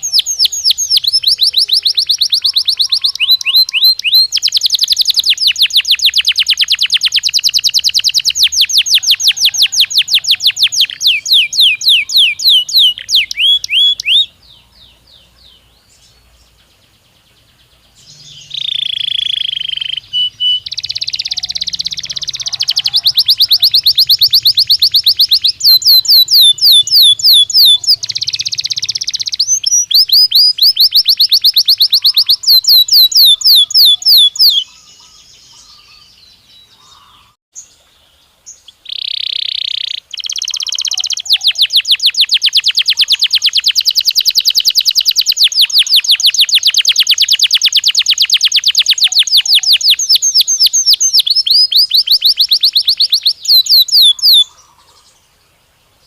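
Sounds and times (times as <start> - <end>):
canary song trills: 0.0 - 56.0.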